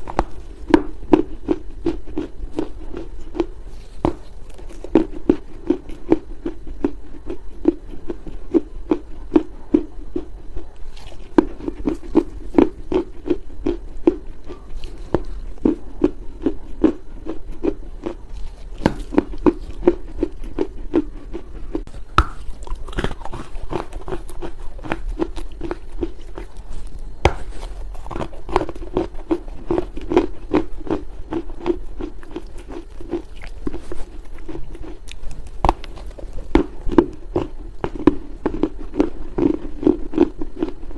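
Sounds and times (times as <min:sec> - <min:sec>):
chewing crunchy clay: 0:00.0 - 0:40.9.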